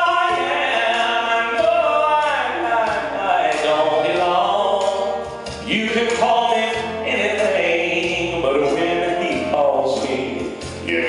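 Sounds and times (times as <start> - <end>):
instrumental accompaniment with bass: 0.0 - 11.0
man singing into microphone: 0.0 - 11.0.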